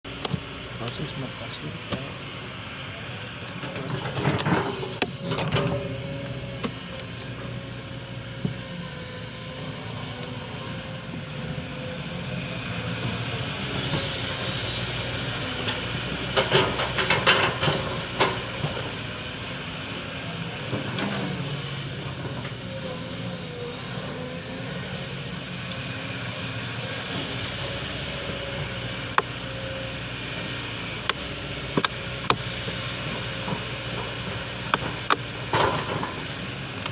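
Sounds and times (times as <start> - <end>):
excavator diesel engine humming: 0.0 - 36.9.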